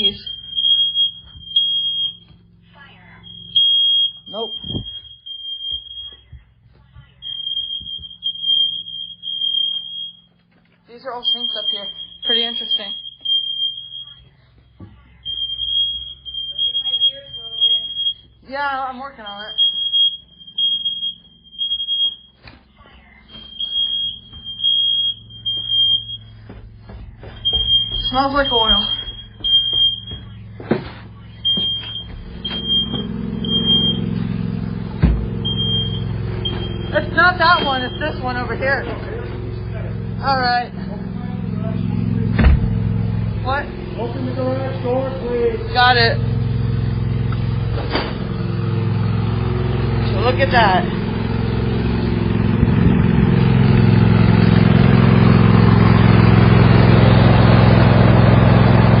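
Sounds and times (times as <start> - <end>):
engine running: 0.0 - 59.0
smoke alarm beeping: 0.0 - 59.0.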